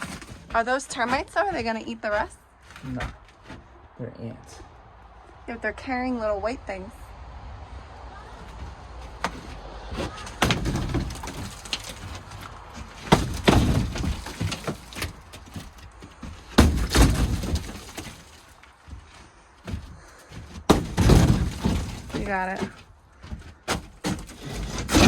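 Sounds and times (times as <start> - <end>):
wooden timber breaking: 0.0 - 3.7, 8.4 - 25.0.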